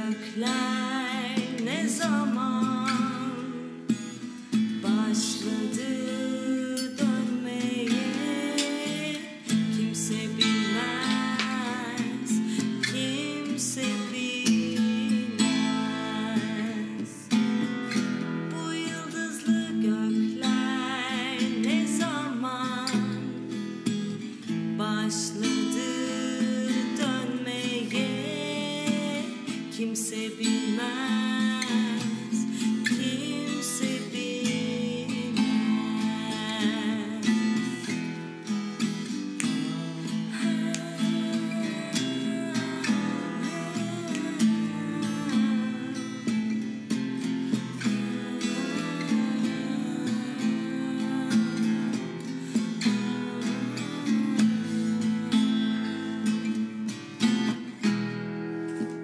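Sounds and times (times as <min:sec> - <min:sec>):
woman singing: 0:00.0 - 0:57.9
acoustic guitar: 0:00.0 - 0:59.0.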